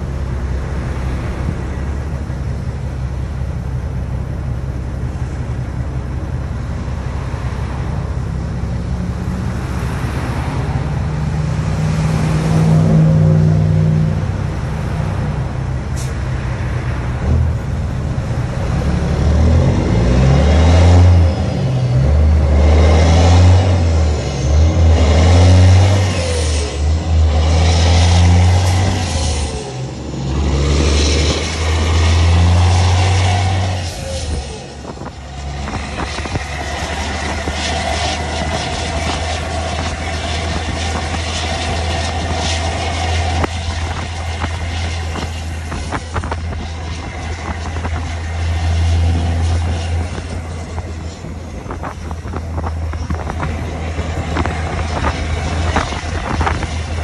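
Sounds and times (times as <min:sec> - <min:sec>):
diesel truck accelerating: 0:00.0 - 0:57.0.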